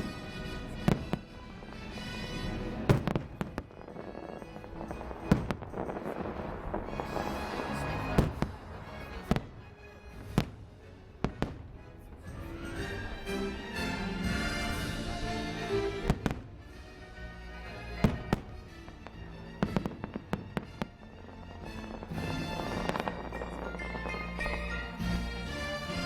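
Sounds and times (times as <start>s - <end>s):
firework bangs: 0.0s - 12.4s, 14.6s - 16.8s, 18.0s - 26.0s
music: 0.0s - 26.0s.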